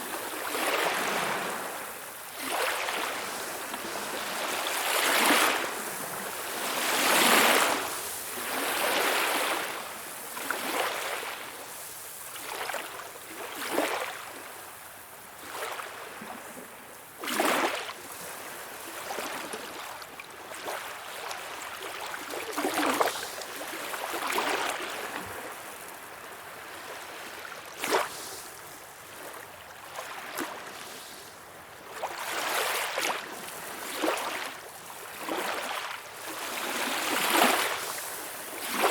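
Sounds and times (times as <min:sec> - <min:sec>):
small waves lapping: 0:00.0 - 0:38.9.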